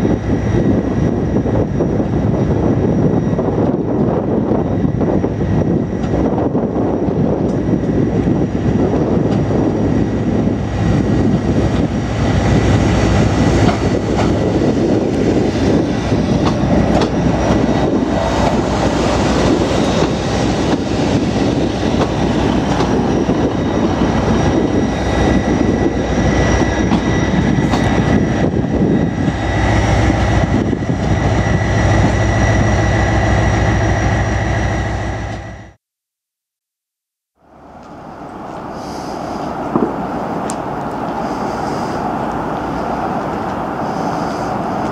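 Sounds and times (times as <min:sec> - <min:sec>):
diesel train engine whine: 0:00.0 - 0:35.8, 0:37.4 - 0:44.9
wheels rumbling on rails: 0:00.0 - 0:35.8, 0:37.4 - 0:44.9
deep diesel engine hum: 0:05.6 - 0:35.8, 0:37.4 - 0:44.9.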